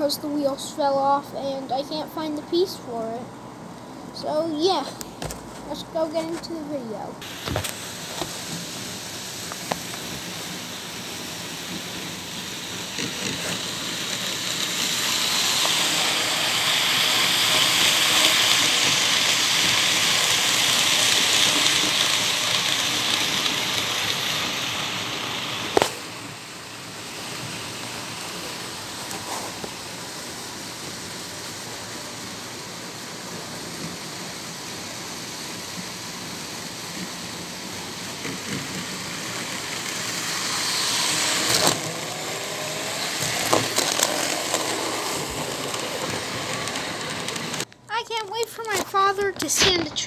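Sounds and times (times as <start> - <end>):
model train running on track: 0.0 - 3.1, 6.0 - 47.7.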